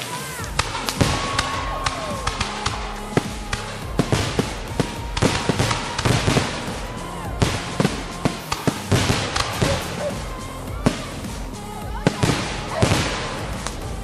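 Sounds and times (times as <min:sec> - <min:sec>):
fireworks banging and crackling: 0:00.0 - 0:14.0
fireworks whistling: 0:00.0 - 0:14.0.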